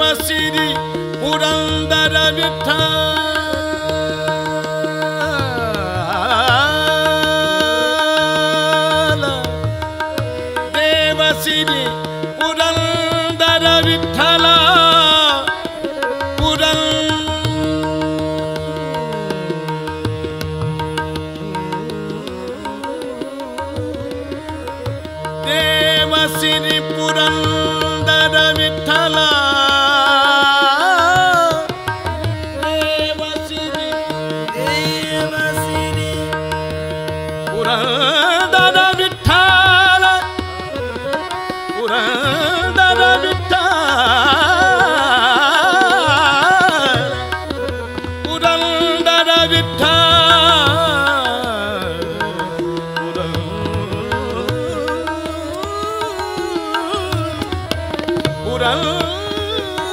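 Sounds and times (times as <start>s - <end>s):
harmonium: 0.0s - 59.9s
man singing: 0.0s - 59.9s
tabla: 0.0s - 59.9s
tanpura drone: 0.0s - 59.9s.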